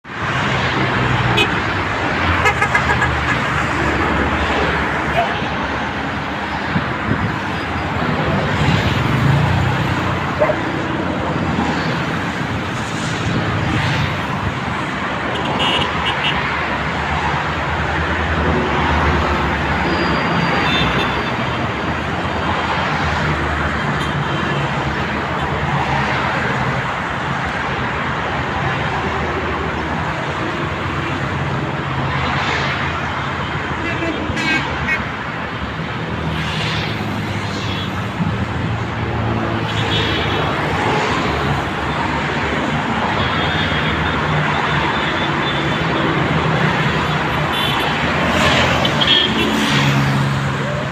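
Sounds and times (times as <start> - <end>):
road traffic rumble: 0.0 - 50.9.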